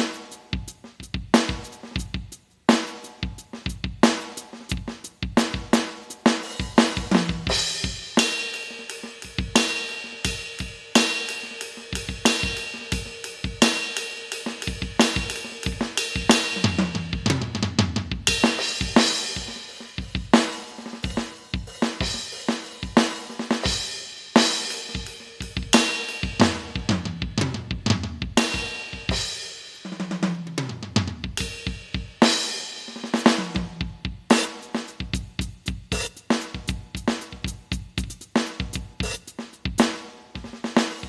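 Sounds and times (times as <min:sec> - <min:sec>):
electronic drum kit groove: 0:00.0 - 0:41.0.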